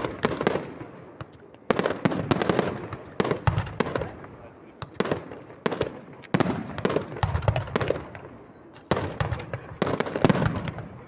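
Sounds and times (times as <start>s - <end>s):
fireworks banging and crackling: 0.0s - 11.0s.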